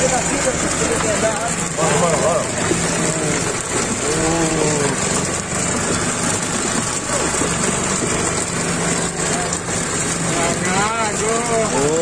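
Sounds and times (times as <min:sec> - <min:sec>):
boat engine humming: 0:00.0 - 0:12.0
wash of noise: 0:00.0 - 0:12.0.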